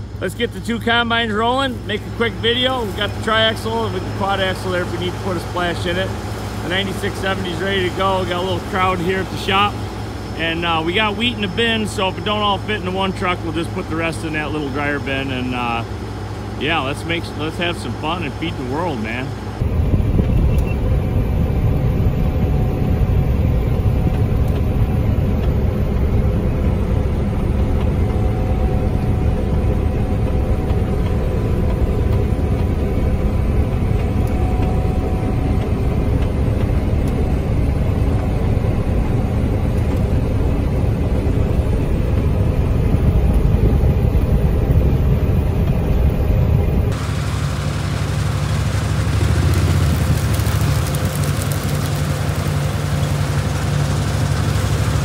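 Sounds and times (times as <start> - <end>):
combine harvester drone in cab: 0.0 - 55.0
combine harvester hum outside: 0.0 - 55.0.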